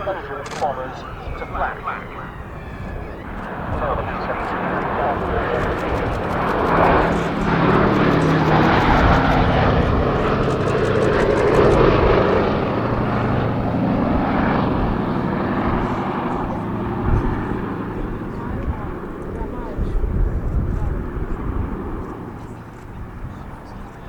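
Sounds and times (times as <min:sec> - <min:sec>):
multi-engine propeller plane flying past: 0:00.0 - 0:24.0.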